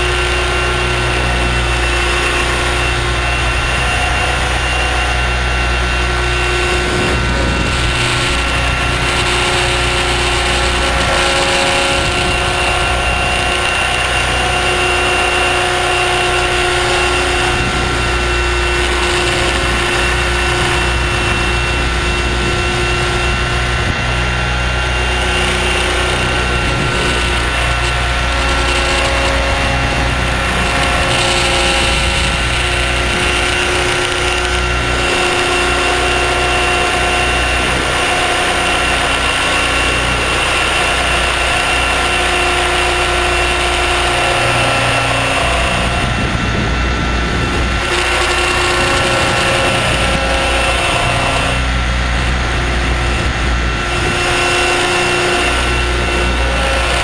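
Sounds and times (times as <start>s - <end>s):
helicopter rotor drone: 0.0s - 57.0s
whining tones: 0.0s - 57.0s.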